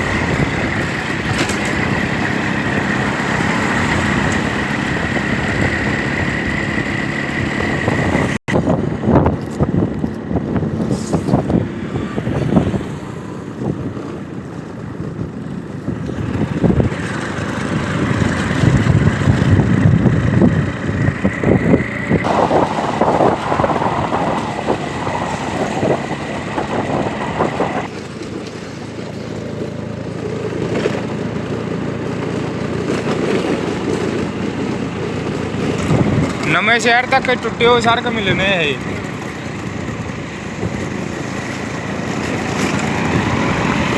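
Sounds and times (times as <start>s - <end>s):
road traffic: 0.0s - 43.9s.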